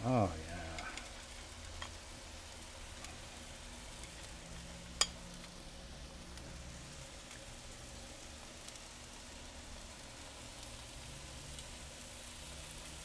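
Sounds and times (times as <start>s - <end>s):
fish sizzling on a grill: 0.0s - 13.0s.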